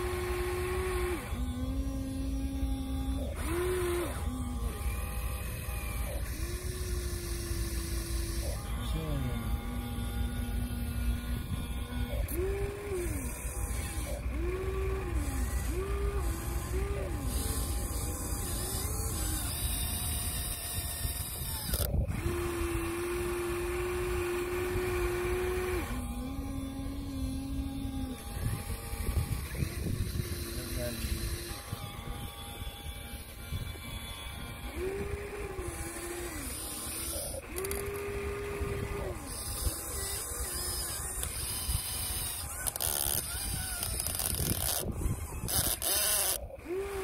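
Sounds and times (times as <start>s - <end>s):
electric motors whining: 0.0s - 47.0s.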